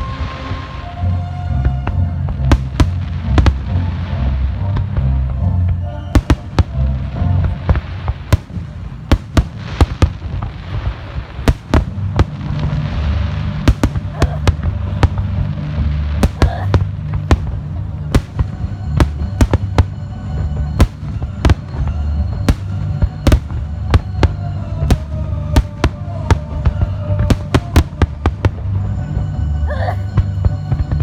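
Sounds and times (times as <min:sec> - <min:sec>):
bass-heavy music over loudspeakers: 0:00.0 - 0:08.6, 0:11.7 - 0:31.0
fireworks bangs and cracks: 0:00.0 - 0:29.0, 0:30.1 - 0:31.0.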